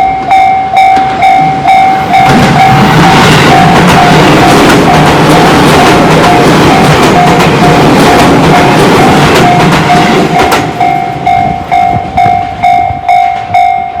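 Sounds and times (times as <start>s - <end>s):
electric train passing: 0.0s - 14.0s
level crossing alarm dinging: 0.0s - 14.0s
train wheels clacking: 0.0s - 14.0s.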